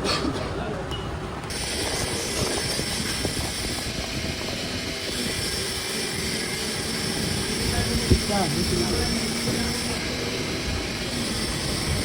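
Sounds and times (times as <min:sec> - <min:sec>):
mechanical workshop noise: 0:00.0 - 0:12.0.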